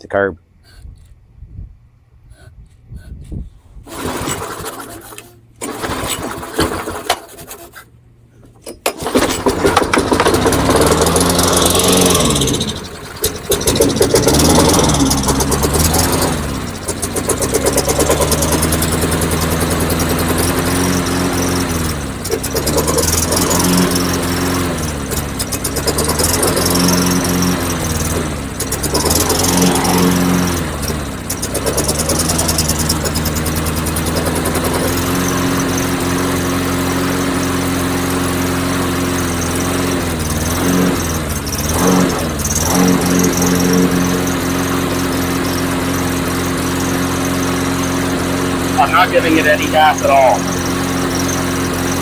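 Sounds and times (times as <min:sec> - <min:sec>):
lawn mower engine running: 0:03.7 - 0:52.0
engine pull-start: 0:03.8 - 0:52.0.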